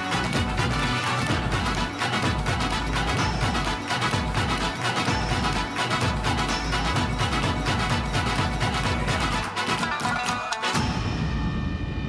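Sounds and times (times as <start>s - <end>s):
stage music with steady beat: 0.0s - 11.2s.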